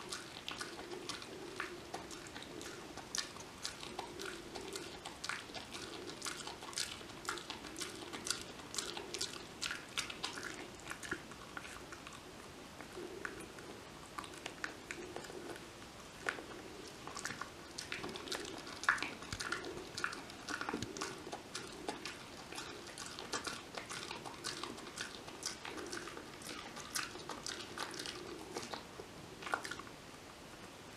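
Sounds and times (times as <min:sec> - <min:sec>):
dog chewing crunchy chew: 0:00.0 - 0:30.0.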